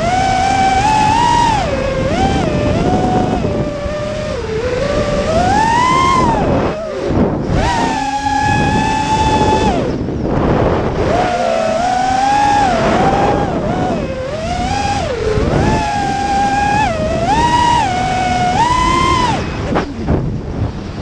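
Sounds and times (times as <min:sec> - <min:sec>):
drone motors whining: 0:00.0 - 0:21.0
wind rushing over microphone: 0:00.0 - 0:21.0.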